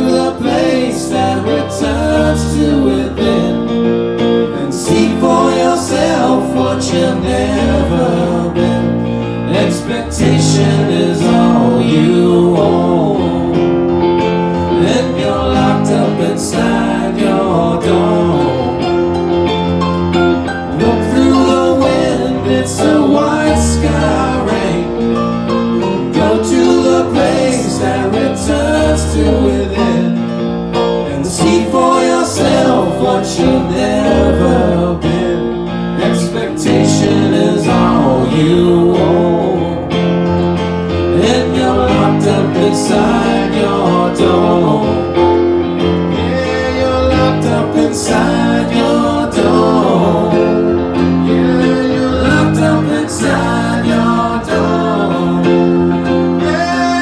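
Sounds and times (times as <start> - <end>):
man singing: 0.0 - 19.2, 20.7 - 30.3, 31.0 - 40.2, 40.9 - 57.0
keyboard and electric guitar: 0.0 - 57.0.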